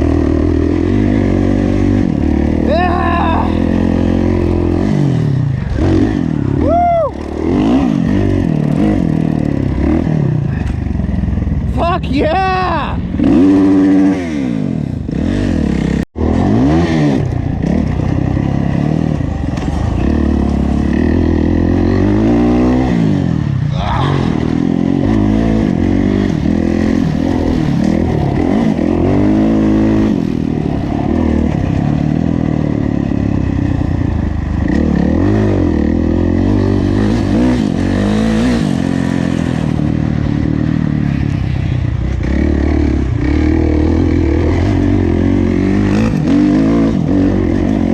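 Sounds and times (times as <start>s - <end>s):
motocross engine revving: 0.0s - 47.9s.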